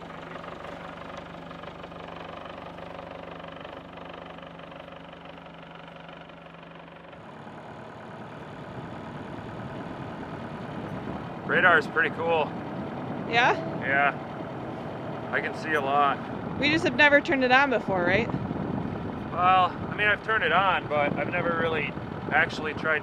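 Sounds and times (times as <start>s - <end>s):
boat diesel engine running: 0.0s - 23.0s.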